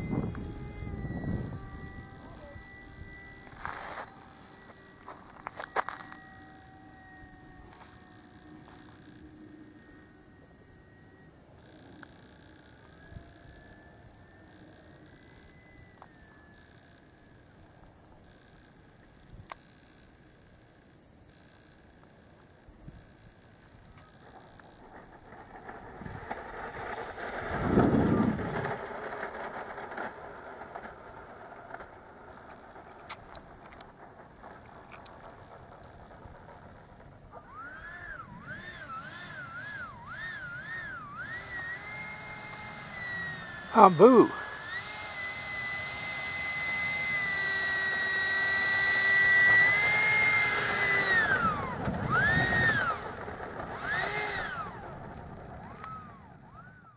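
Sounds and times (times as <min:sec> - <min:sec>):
model jet rushing past: 0:00.0 - 0:19.2, 0:24.1 - 0:56.9
electric ducted fan whine: 0:00.0 - 0:56.9.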